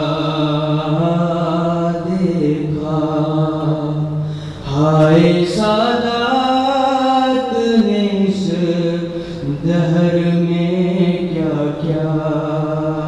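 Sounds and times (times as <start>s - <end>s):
man chanting a lament: 0.0s - 13.0s.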